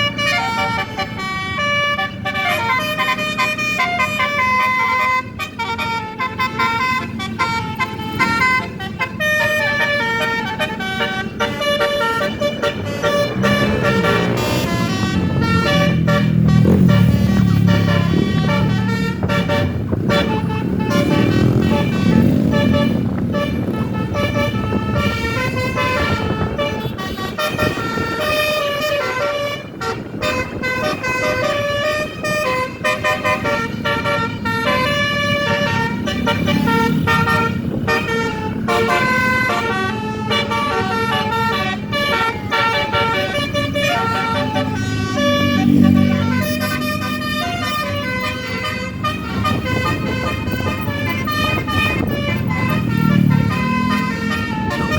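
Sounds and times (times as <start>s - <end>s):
bus engine running: 0.0s - 54.9s
multi-note air horn tune: 0.0s - 54.9s.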